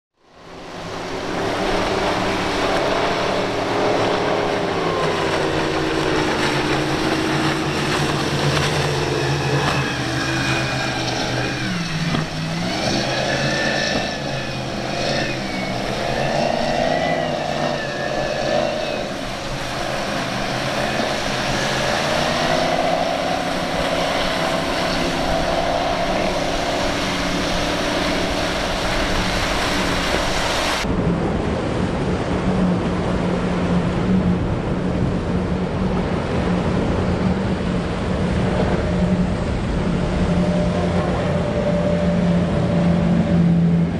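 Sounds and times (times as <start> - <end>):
motorboat engines running: 0.2 - 43.9.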